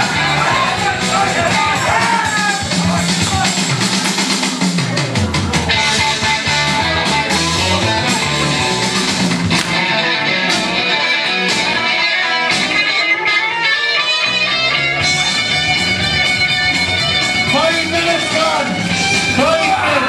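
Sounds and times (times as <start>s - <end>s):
guitar music: 0.0s - 3.9s, 5.5s - 20.0s.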